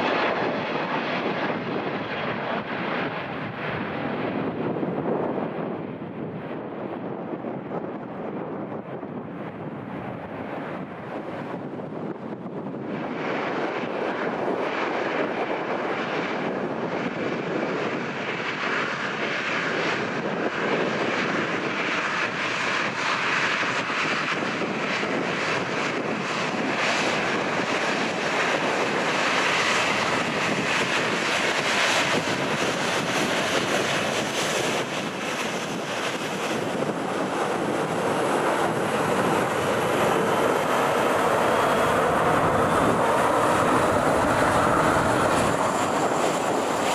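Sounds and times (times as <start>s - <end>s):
jet engines running: 0.0s - 46.9s.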